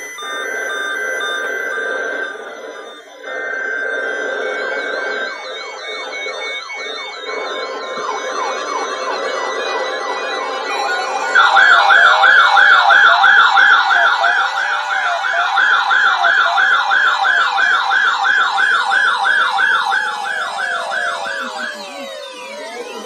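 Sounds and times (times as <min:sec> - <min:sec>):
warbling siren tone: 0:00.0 - 0:23.0.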